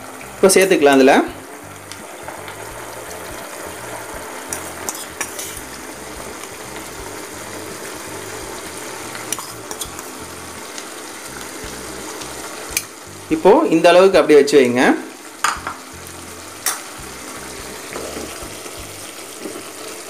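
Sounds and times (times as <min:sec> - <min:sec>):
oil bubbling and sizzling in pan: 0:00.0 - 0:20.0.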